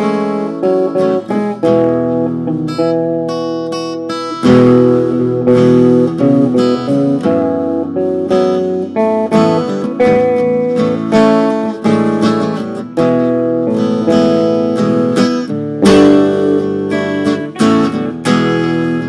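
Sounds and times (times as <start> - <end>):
guitar soloing: 0.0 - 19.0.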